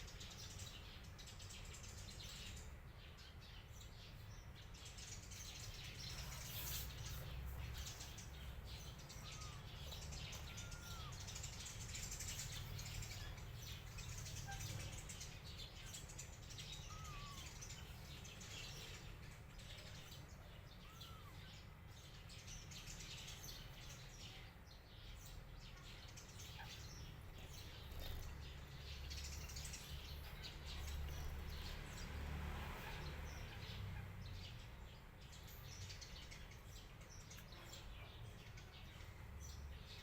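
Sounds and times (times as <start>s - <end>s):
faint bird chirps: 0.0s - 40.0s.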